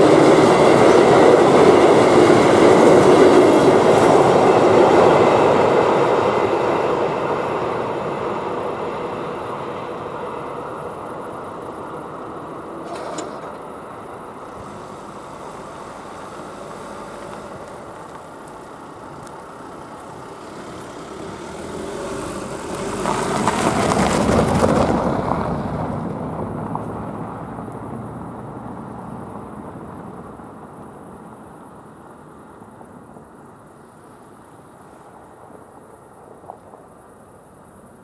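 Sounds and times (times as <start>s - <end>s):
car passing by: 0.0s - 30.7s.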